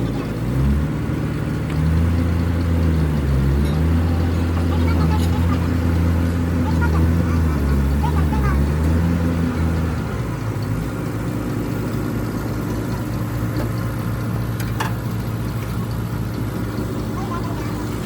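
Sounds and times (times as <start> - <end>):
bulldozer diesel engine idling: 0.0 - 18.0.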